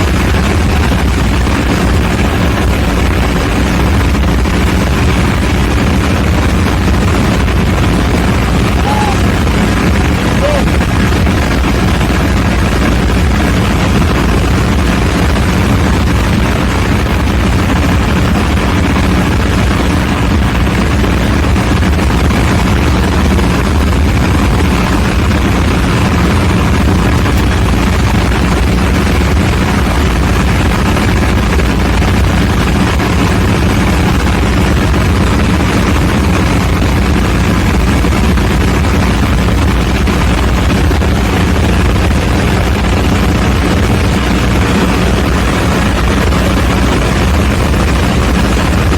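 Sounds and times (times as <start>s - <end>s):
diesel generator engine droning: 0.0s - 48.9s.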